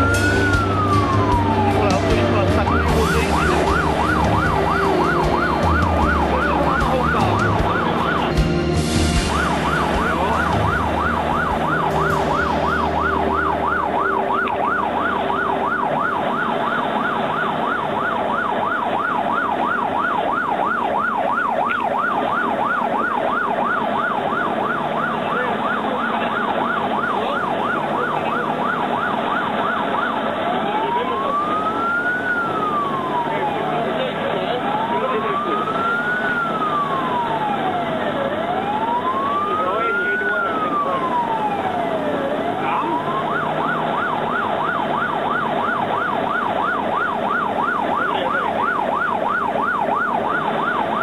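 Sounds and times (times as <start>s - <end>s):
fire engine siren: 0.0s - 51.0s
truck engine running: 0.0s - 51.0s.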